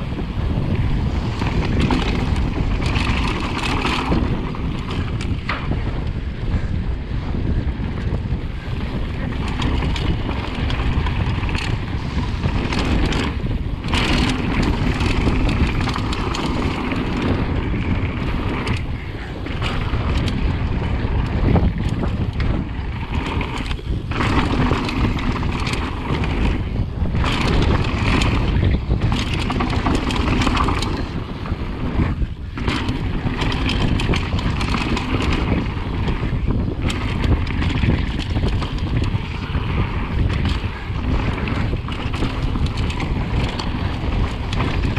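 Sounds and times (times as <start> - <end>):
bike tyres rumbling on dirt: 0.0 - 44.9
wind on microphone: 0.0 - 44.9.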